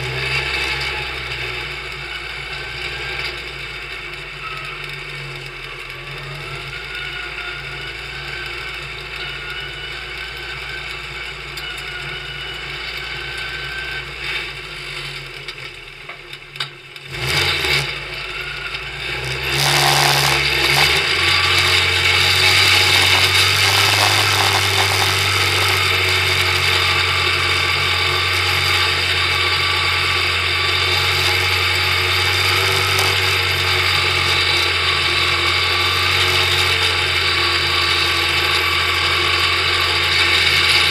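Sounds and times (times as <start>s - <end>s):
racing car engine: 0.0s - 40.9s.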